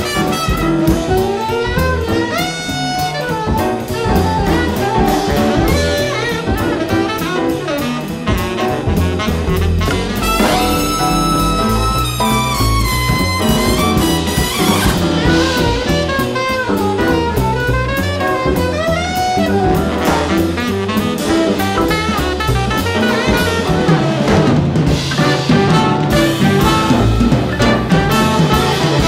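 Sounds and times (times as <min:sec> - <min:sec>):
drum kit beat: 0:00.0 - 0:29.0
jazz brass horns: 0:00.0 - 0:29.0.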